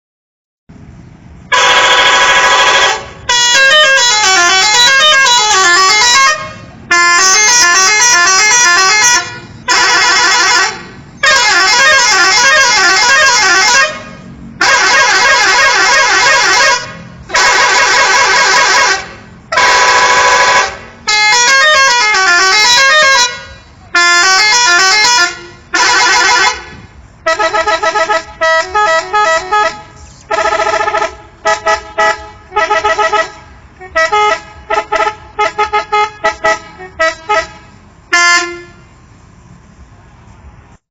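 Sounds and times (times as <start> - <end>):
musical bus horn blasts: 1.5 - 39.1.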